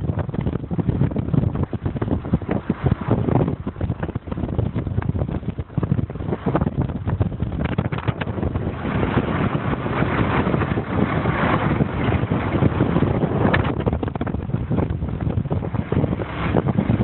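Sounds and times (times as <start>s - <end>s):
vehicle road noise: 0.0s - 17.0s
wind on microphone: 0.0s - 17.0s.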